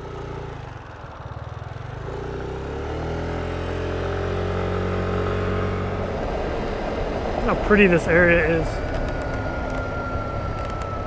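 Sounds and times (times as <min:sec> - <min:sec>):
motorbike engine accelerating: 0:00.0 - 0:11.0.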